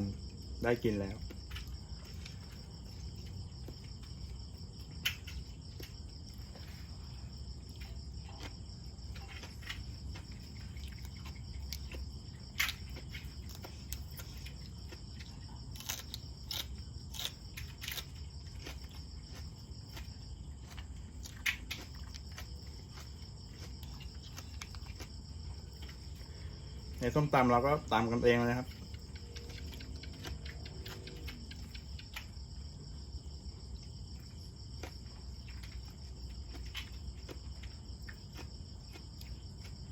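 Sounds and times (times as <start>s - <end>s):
crickets chirring: 0.0s - 39.9s
person chewing crunchy food: 0.0s - 39.9s.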